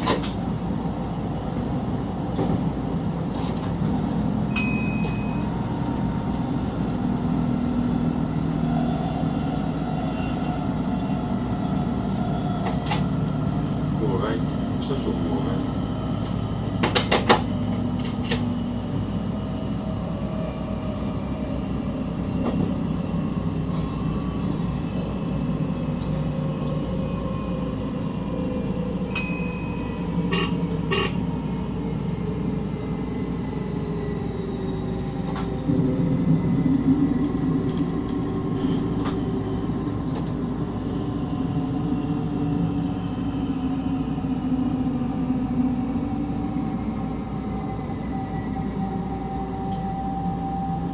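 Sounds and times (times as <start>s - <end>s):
train rumble: 0.0s - 50.9s.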